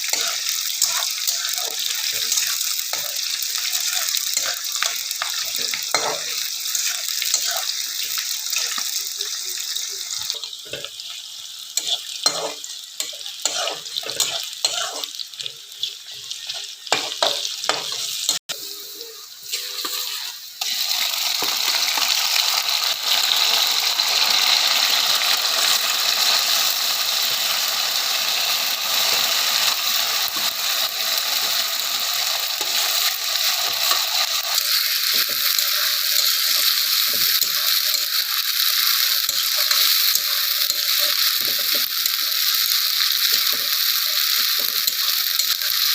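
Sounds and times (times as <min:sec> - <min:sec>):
food sizzling in hot oil: 0:00.0 - 0:45.9
utensil stirring in cooking pan: 0:00.0 - 0:45.9.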